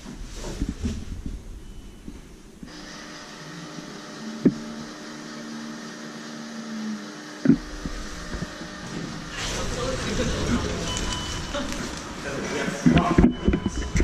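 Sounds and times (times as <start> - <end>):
elevator machine hum: 0.0 - 14.0.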